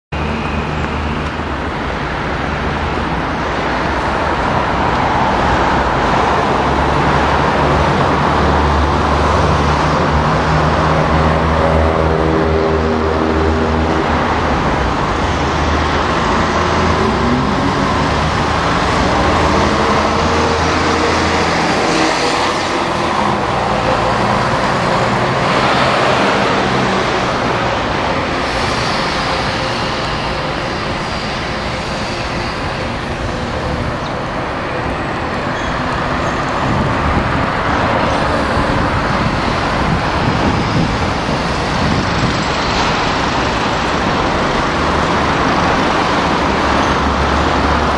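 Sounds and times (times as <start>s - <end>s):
road traffic: 0.1s - 47.9s.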